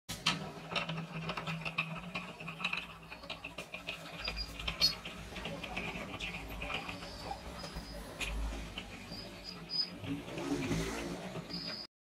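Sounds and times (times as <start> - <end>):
vise screw clicking and rattling: 0.2 - 10.1.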